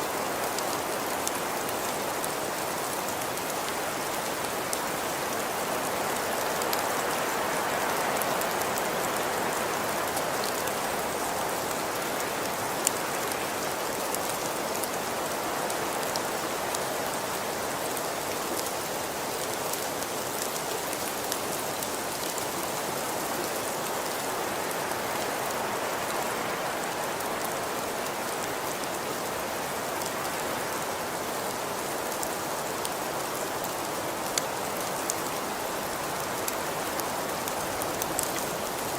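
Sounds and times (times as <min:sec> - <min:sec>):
raindrops ticking on a surface: 0:00.0 - 0:38.9
steady rain hiss: 0:00.0 - 0:38.9.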